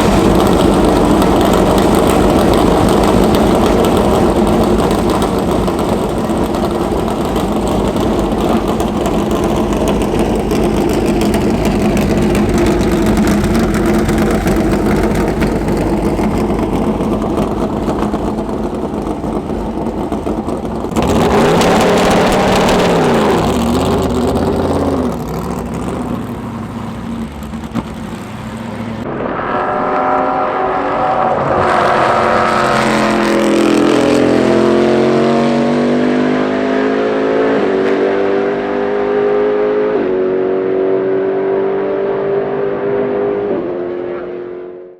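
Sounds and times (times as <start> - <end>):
engine revving up: 0.0 - 19.2, 20.0 - 44.9
race car engines running: 0.0 - 44.4
race car passing close: 0.0 - 44.8.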